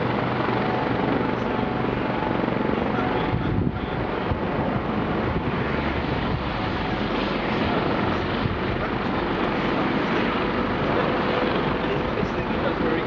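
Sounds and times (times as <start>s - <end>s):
helicopter turbine and rotor noise: 0.0s - 13.0s.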